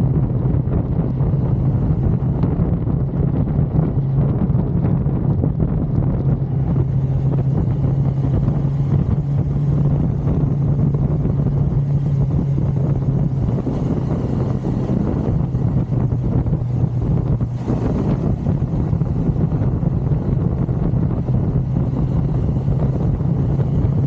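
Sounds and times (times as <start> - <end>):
motorcycle engine cruising: 0.0 - 24.0
wind rush on microphone: 0.0 - 24.0.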